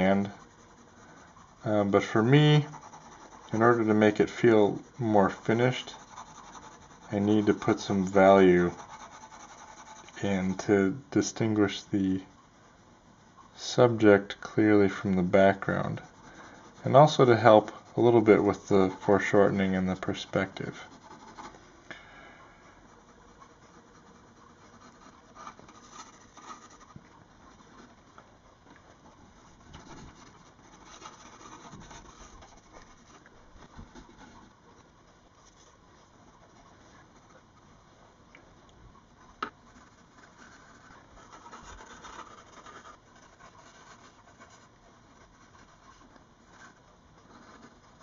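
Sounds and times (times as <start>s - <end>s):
pencil scratching on paper: 0.0s - 12.8s, 13.4s - 21.8s, 22.6s - 28.2s, 28.9s - 37.8s, 39.0s - 48.0s.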